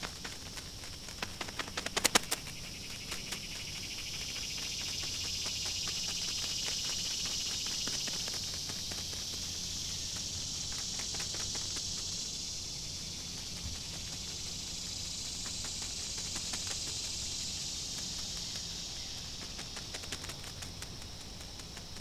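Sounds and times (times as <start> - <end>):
rapid clicking: 0.0 - 22.0
shrill insect chorus: 0.0 - 22.0.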